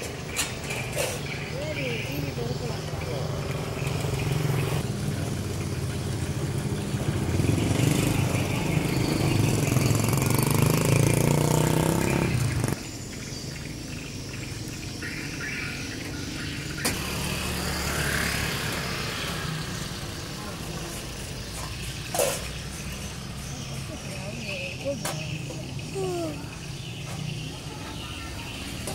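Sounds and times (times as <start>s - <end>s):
vehicle engines running: 0.0s - 28.9s.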